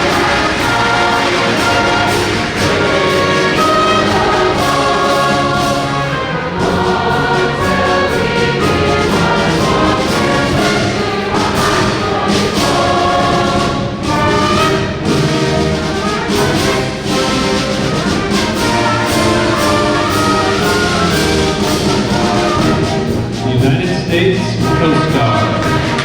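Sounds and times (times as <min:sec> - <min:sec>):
brass band playing: 0:00.0 - 0:26.0
choir singing: 0:00.0 - 0:26.0.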